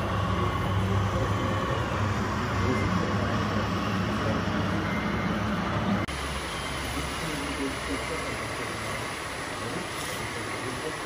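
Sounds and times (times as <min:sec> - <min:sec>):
faint high whine: 0:00.0 - 0:11.0
model truck motor humming: 0:00.0 - 0:11.0.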